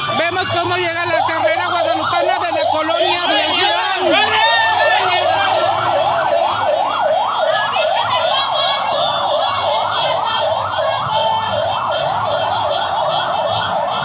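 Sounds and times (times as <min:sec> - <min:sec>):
siren in fast yelp: 0:00.0 - 0:14.0.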